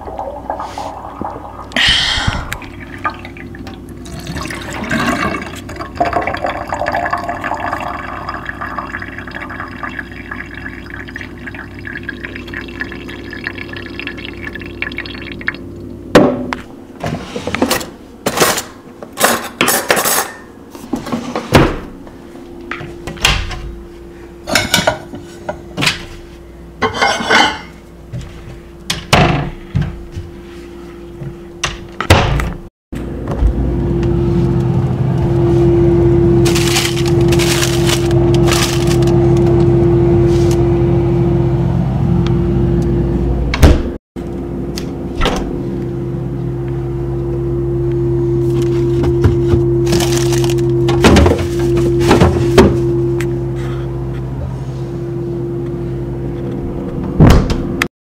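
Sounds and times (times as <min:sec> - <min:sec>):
steady machine hum: 0:00.0 - 0:19.1, 0:20.5 - 0:26.9, 0:33.0 - 0:57.9.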